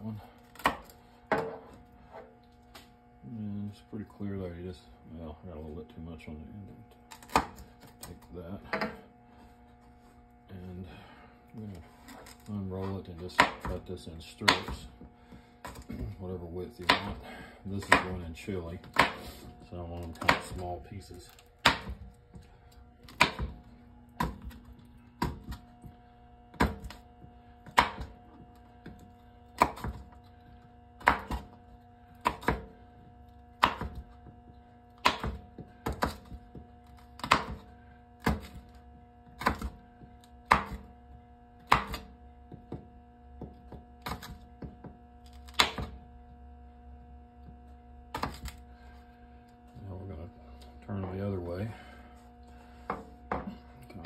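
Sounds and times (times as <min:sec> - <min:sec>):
steady faint hum: 0:00.0 - 0:54.0.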